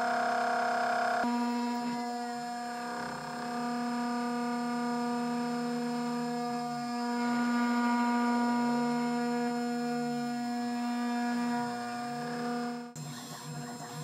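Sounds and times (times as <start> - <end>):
milling machine whining: 0.0 - 14.0.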